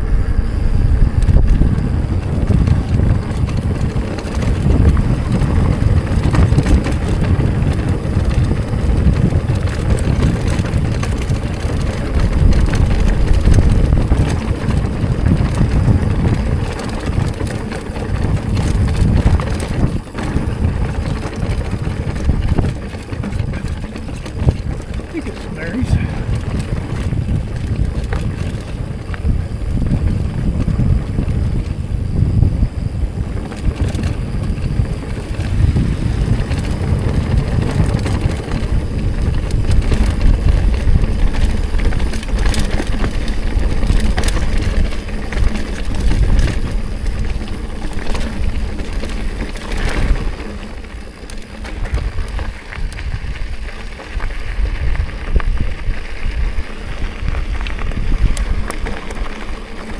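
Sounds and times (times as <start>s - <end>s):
wind rumble on microphone: 0.0s - 59.9s
bike clicks and clatter over rock: 0.4s - 59.9s.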